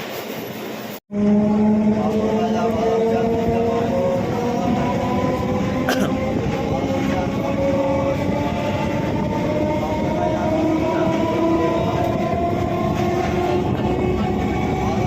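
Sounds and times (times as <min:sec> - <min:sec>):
electric train running: 0:00.0 - 0:15.0
train whining tones: 0:00.0 - 0:15.0.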